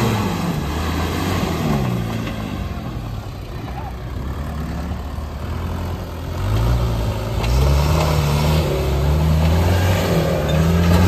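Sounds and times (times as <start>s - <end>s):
vehicle engine under load: 0.0s - 11.0s.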